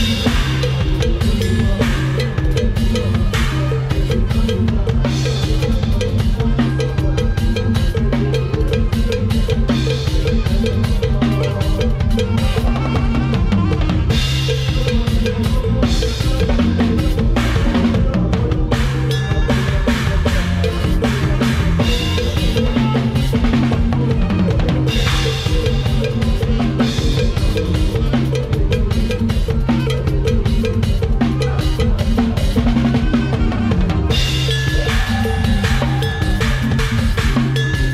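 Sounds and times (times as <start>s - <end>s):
band music with bass line: 0.0s - 37.9s
drum kit playing fast groove: 0.0s - 37.9s.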